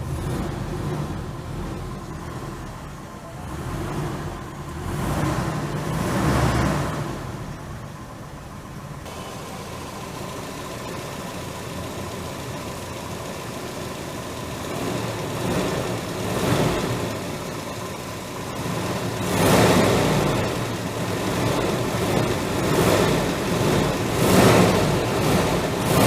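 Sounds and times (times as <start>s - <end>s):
engine revving: 0.0s - 7.6s, 9.1s - 26.0s
car engine idling: 0.0s - 26.0s.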